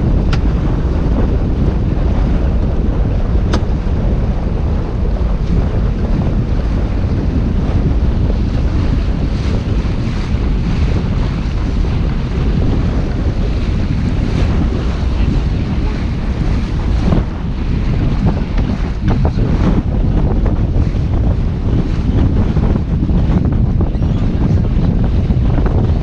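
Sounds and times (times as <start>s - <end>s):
water rushing past hull: 0.0s - 26.0s
wind buffeting microphone: 0.0s - 26.0s.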